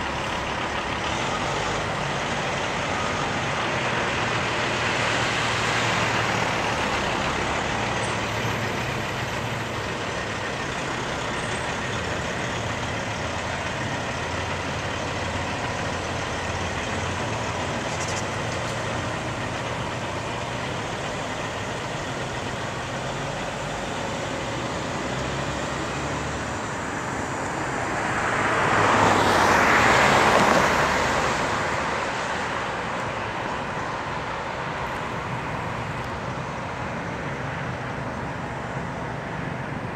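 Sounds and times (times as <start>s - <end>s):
traffic noise: 0.0s - 39.9s
truck diesel engine driving off: 0.0s - 39.9s.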